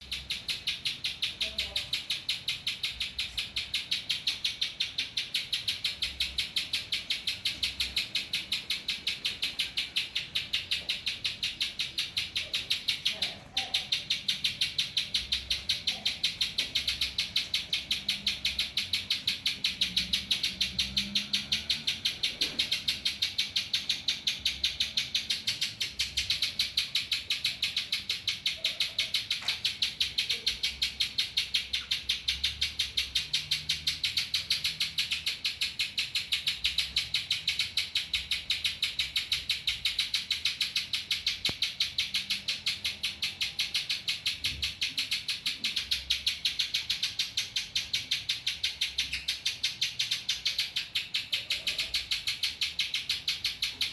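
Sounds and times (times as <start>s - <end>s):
bird singing rapid high chirps: 0.0s - 53.9s.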